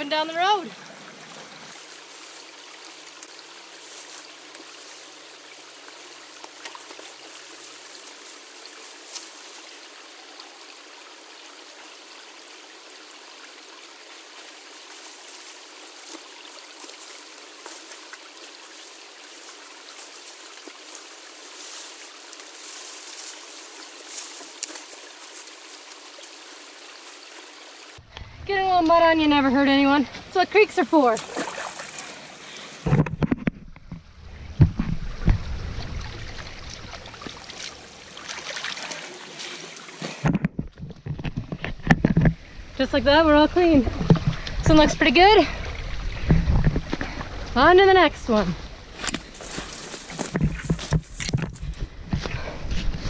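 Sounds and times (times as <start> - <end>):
creek running: 0.0 - 53.0.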